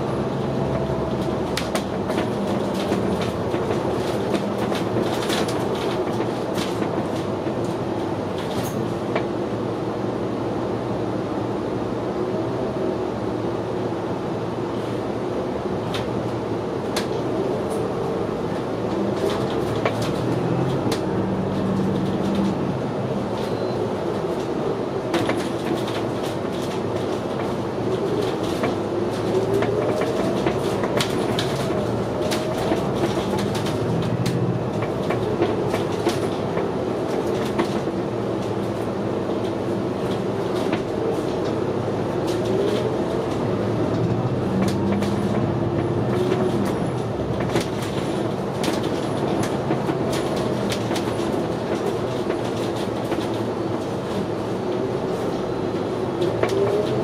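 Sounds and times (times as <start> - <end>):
bus body clicks and rattles: 0.0 - 10.0, 14.5 - 57.0
bus engine droning: 0.0 - 57.0.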